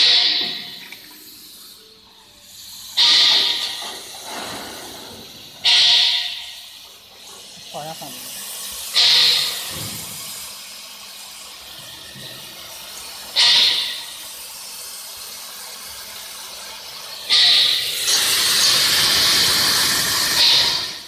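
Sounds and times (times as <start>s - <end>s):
compressed air bursts hissing: 0.0s - 21.0s.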